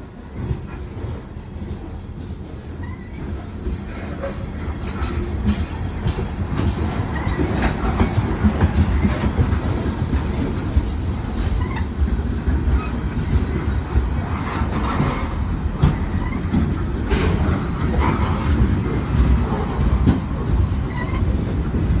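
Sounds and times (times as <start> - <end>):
train rumbling past: 0.0 - 22.0
wheels clicking over rail joints: 0.0 - 22.0.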